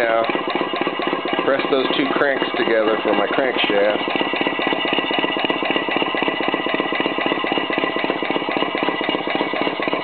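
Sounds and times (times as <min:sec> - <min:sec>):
small steam engine chuffing: 0:00.0 - 0:10.0.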